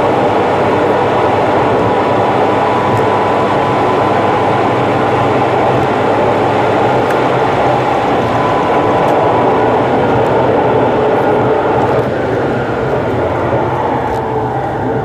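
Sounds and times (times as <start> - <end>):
car driving noise: 0.0 - 15.0.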